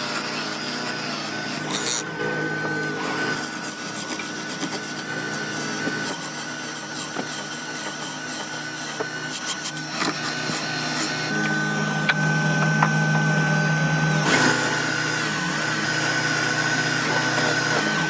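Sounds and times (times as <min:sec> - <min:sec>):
steady machine hum: 0:00.0 - 0:18.0
tools rasping and rubbing wood: 0:00.0 - 0:18.0.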